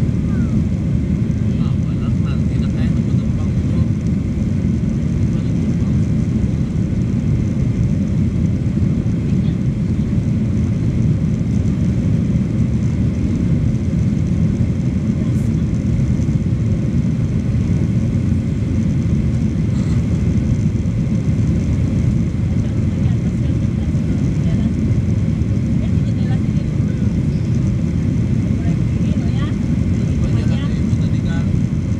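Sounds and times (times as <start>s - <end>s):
jet engines rumbling: 0.0s - 31.9s.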